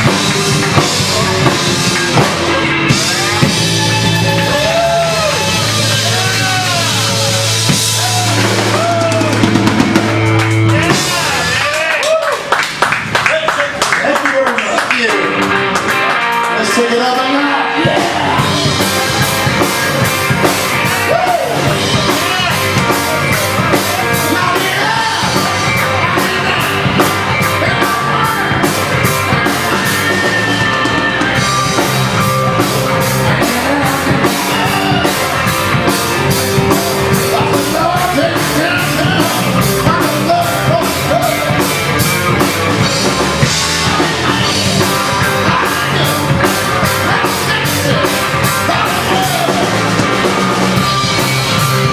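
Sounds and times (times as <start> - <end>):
drum kit with cymbals: 0.0 - 11.7, 17.8 - 51.9
electric bass: 0.0 - 13.2, 15.0 - 51.9
electric guitars: 0.0 - 13.3, 14.5 - 51.9.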